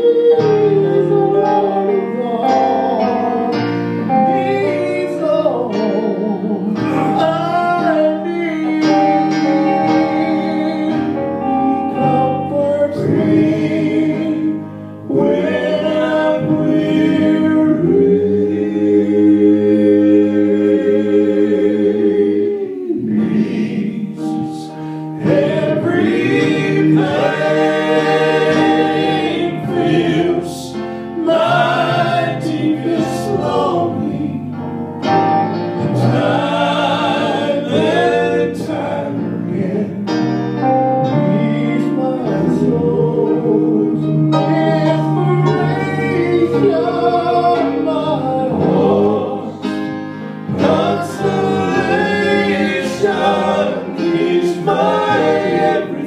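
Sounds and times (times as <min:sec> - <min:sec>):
male quartet singing in harmony: 0:00.0 - 0:56.0.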